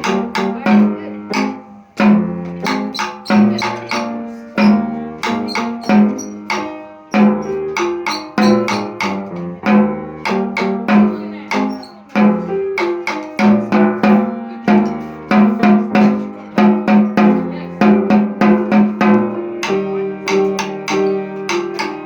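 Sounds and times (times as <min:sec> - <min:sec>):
pitched ringing notes: 0:00.0 - 0:22.0
snare drum: 0:00.0 - 0:22.0.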